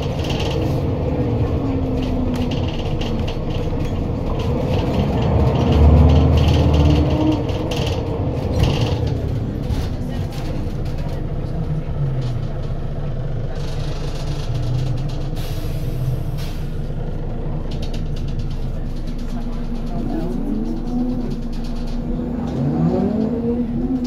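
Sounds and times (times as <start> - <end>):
body rattles and creaks: 0.0 - 15.5, 16.4 - 24.0
bus engine running: 0.0 - 24.0.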